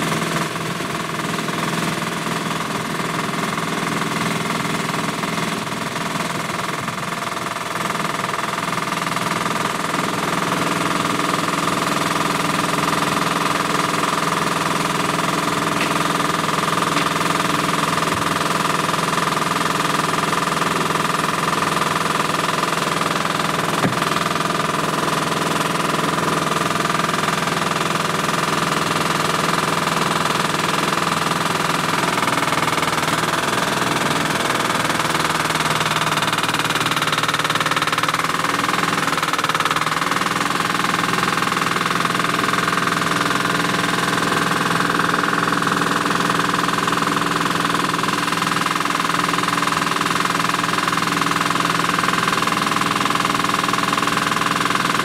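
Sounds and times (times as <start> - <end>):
engine droning steadily: 0.0 - 55.0.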